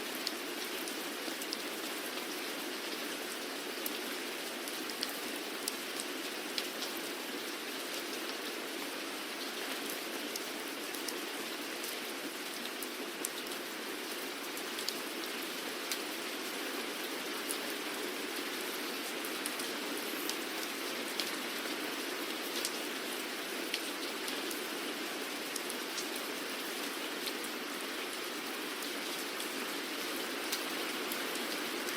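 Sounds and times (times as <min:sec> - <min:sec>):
steady rainfall: 0:00.0 - 0:31.9
raindrops ticking on a surface: 0:00.1 - 0:31.9.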